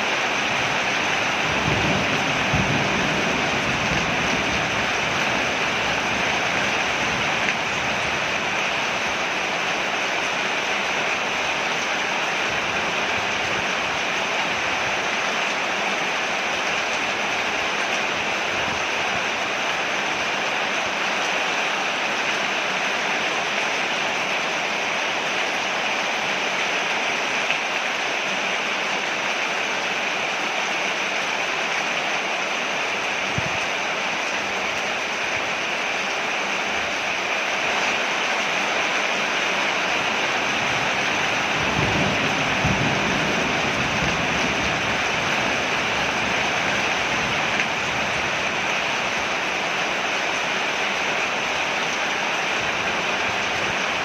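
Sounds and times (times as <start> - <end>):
rain falling on a porch: 0.0 - 54.0.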